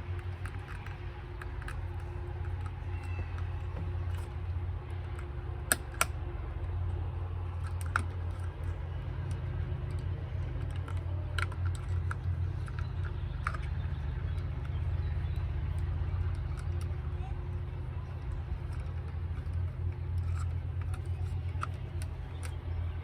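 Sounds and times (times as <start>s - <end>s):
light clicks and taps: 0.0s - 23.0s
steady low hum: 0.0s - 23.0s.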